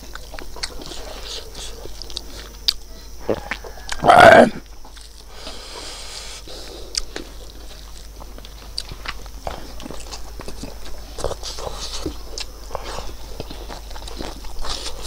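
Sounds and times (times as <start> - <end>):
man chewing food: 0.0 - 15.0.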